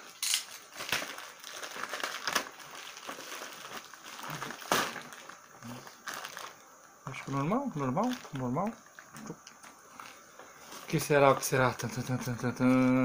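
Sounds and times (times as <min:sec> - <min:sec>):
plastic bag crinkling and tearing: 0:00.0 - 0:11.6.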